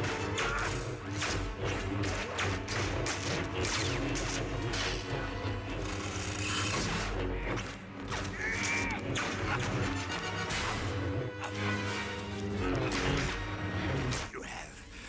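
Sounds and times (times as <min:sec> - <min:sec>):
dramatic film score: 0:00.0 - 0:15.0.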